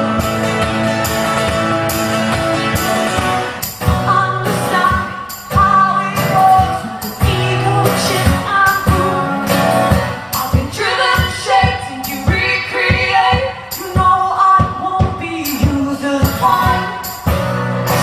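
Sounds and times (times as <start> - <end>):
live band with singing: 0.0 - 18.0.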